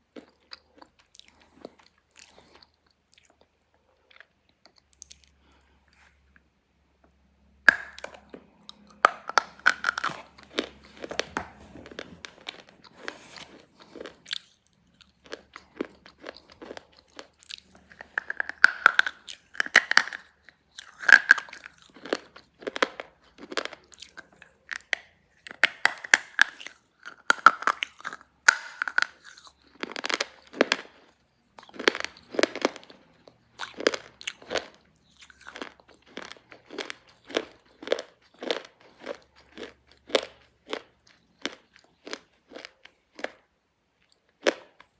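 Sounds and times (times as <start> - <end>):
crunching and chewing: 0.0 - 6.5, 7.7 - 44.9.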